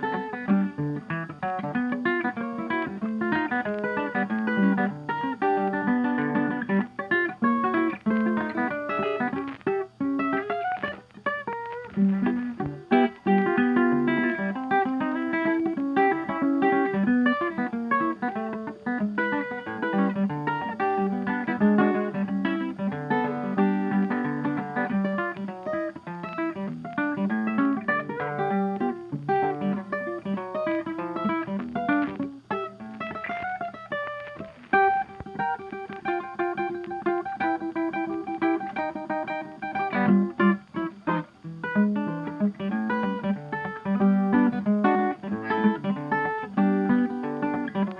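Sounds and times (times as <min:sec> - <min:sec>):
acoustic guitar music: 0:00.0 - 0:47.9.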